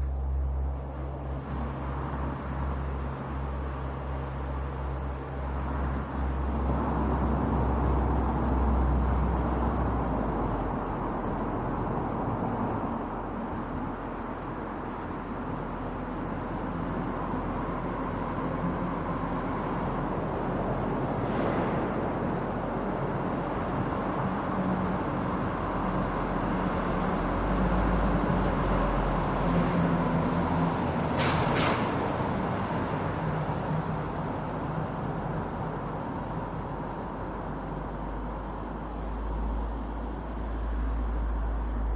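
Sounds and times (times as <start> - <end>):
low engine hum: 0.0 - 41.9
surrounding traffic: 0.0 - 41.9.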